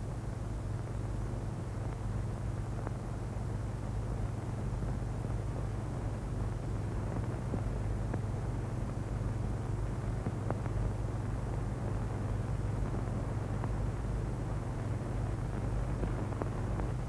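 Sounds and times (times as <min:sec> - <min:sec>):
film soundtrack hum and hiss: 0:00.0 - 0:17.0.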